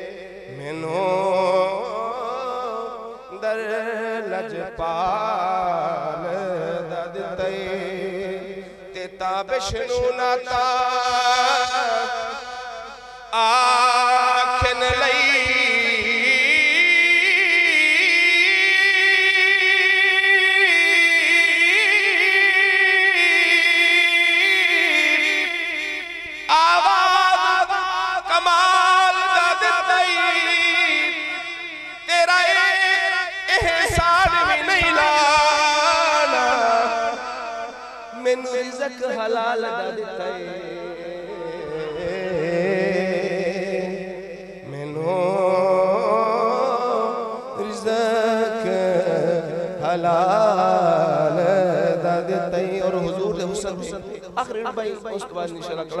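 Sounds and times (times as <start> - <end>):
man chanting: 0.0 - 56.0
man singing a long note: 0.0 - 56.0.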